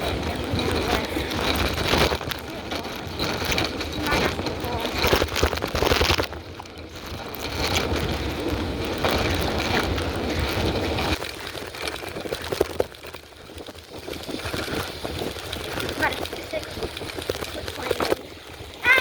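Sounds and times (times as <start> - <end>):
bicycle rumble and rattles: 0.0 - 19.0
wind buffeting microphone: 0.0 - 19.0.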